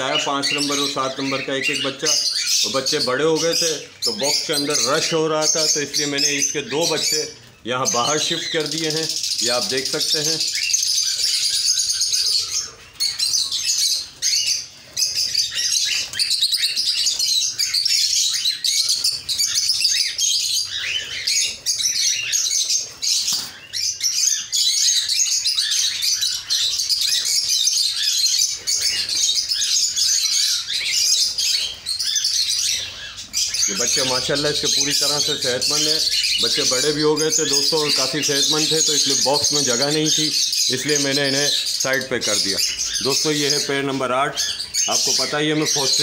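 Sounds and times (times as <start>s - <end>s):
cockatiels chirping and calling: 0.0s - 46.0s.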